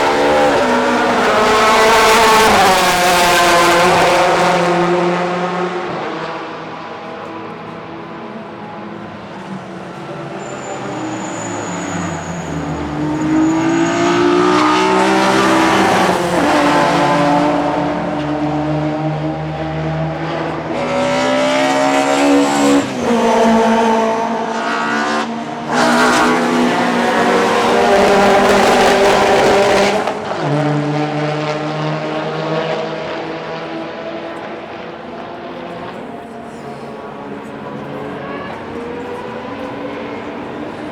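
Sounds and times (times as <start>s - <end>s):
race cars accelerating past: 0.0s - 40.9s.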